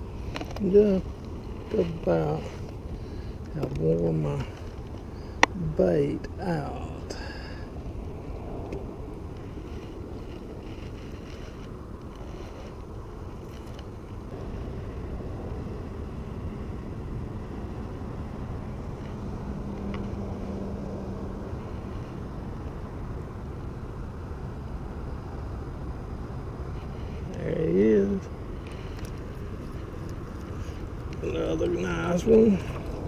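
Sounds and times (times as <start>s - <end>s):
faint steady hum: 0.0s - 33.0s
wind buffeting microphone: 6.2s - 33.0s.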